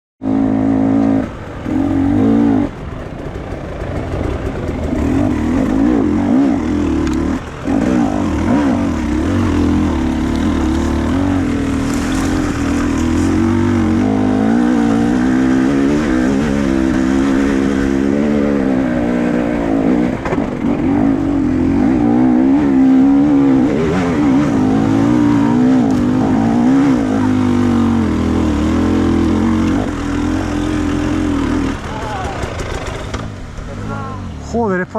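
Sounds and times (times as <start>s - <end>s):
motorcycle engine revving: 0.2s - 34.8s.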